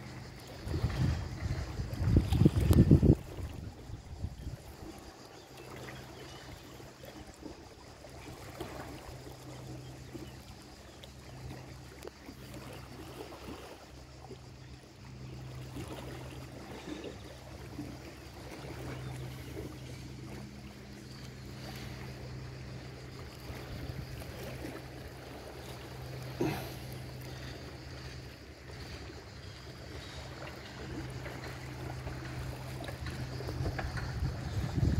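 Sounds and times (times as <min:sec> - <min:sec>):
low motor hum: 0:00.0 - 0:34.9
water splashing and lapping: 0:00.0 - 0:34.9.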